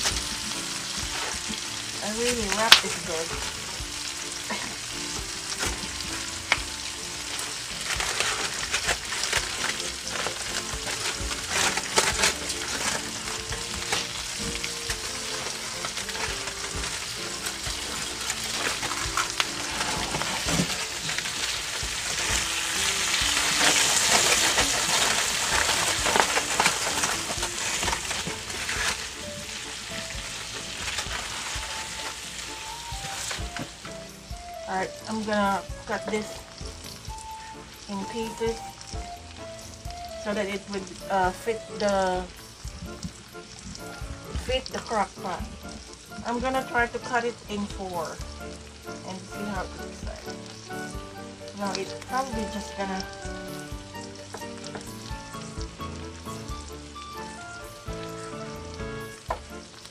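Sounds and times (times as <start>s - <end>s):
aluminium foil crackling: 0.0s - 59.9s.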